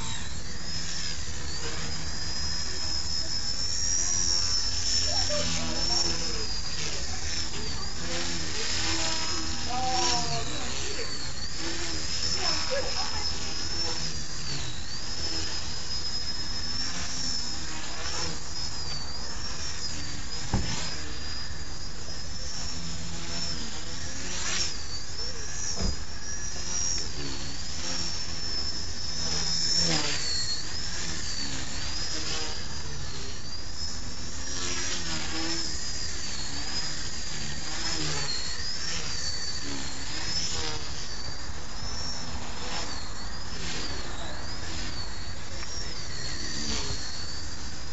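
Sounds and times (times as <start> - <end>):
small helicopter rotors whining: 0.0 - 47.9.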